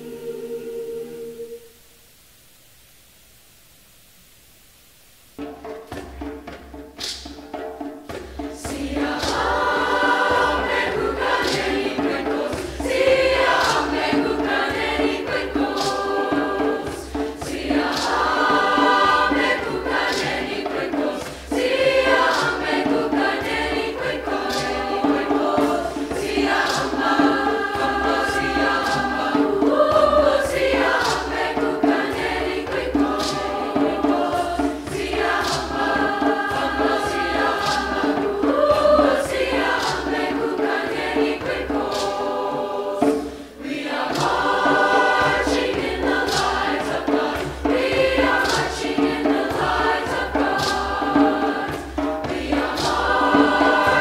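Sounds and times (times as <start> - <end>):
choir singing in harmony: 0.0 - 1.8, 5.4 - 54.0
percussion strikes: 5.2 - 54.0.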